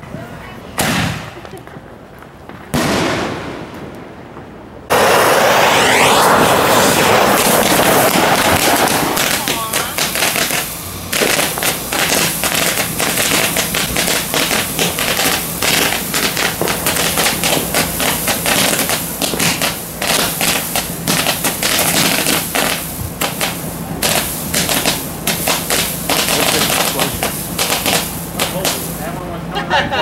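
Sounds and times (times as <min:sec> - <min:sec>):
firework fountain hissing: 0:04.8 - 0:30.0
rapid crackling pops: 0:04.9 - 0:29.0.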